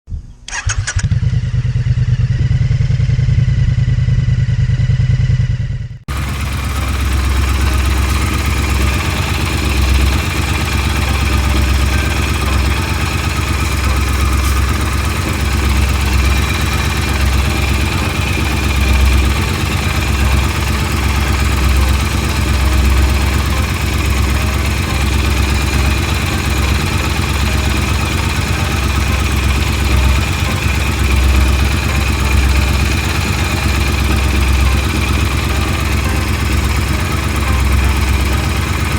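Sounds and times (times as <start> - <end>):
motorcycle engine running: 0.5 - 38.9.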